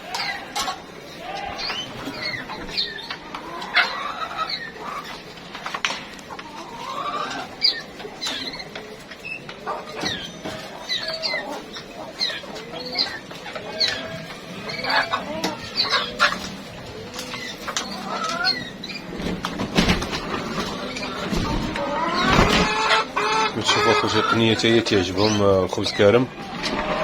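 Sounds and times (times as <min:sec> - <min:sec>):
chickens and birds chirping: 0:00.0 - 0:27.0.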